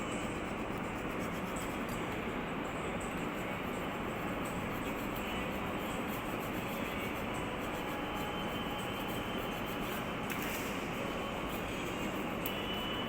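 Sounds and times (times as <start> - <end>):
machinery rumble and hiss: 0.0 - 13.0.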